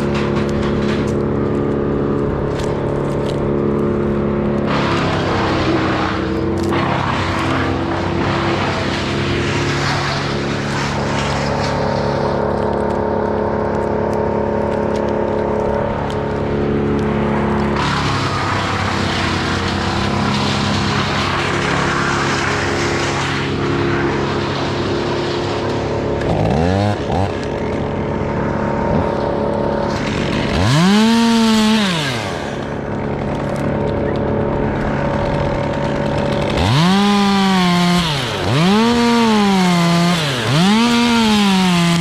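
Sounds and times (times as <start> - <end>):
engine running under load: 0.0 - 42.0.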